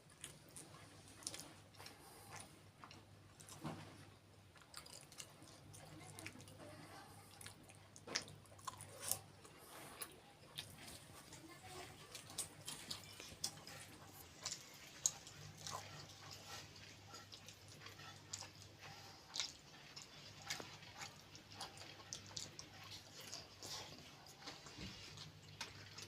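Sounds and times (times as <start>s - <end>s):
wet chewing and mouth clicks: 0.0s - 6.6s, 7.2s - 26.0s
faint low hum: 0.0s - 26.0s.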